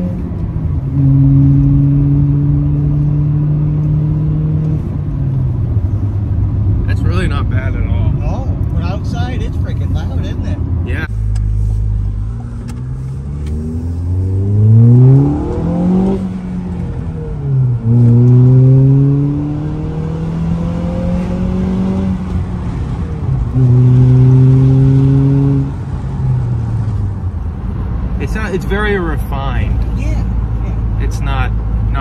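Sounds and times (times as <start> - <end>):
car engine accelerating: 0.0 - 29.2.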